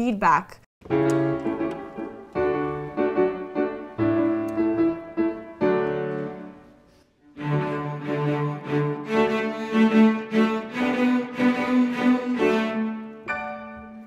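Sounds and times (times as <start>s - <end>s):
chamber music chords: 0.8s - 14.0s.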